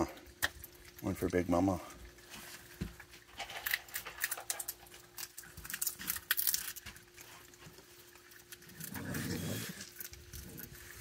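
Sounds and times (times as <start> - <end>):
raccoons chewing dry food: 0.0 - 11.0.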